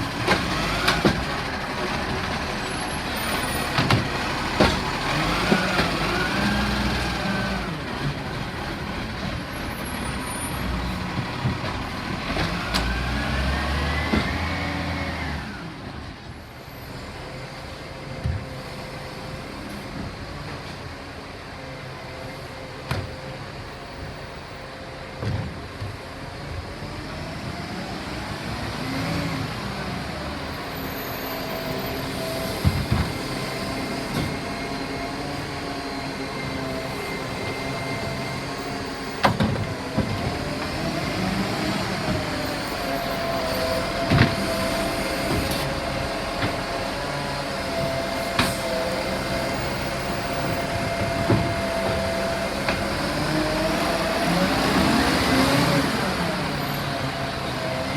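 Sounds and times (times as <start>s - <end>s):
engine and hydraulic whine: 0.0s - 57.9s.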